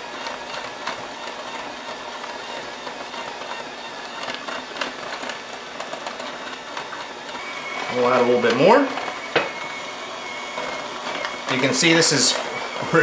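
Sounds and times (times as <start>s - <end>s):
electric hand mixer running: 0.0s - 13.0s.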